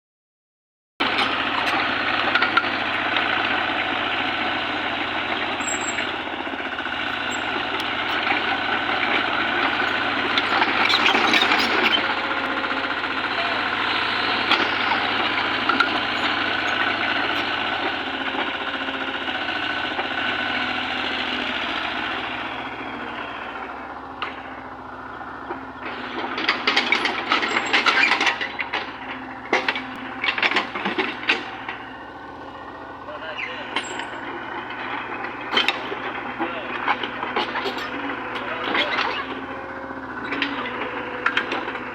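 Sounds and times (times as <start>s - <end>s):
excavator engine under load: 1.0s - 41.9s.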